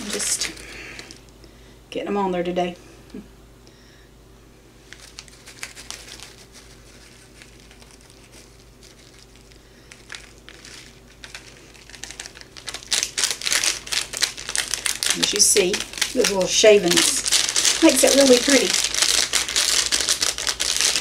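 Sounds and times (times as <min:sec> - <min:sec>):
candy wrapper crinkling: 0:00.0 - 0:01.3, 0:04.8 - 0:21.0.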